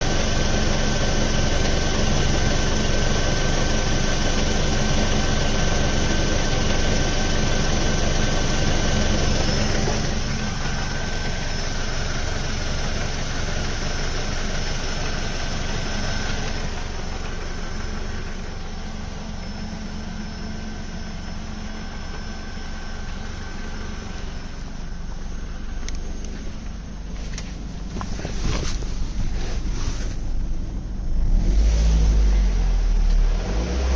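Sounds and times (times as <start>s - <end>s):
car engine idling with rattle: 0.0s - 33.9s.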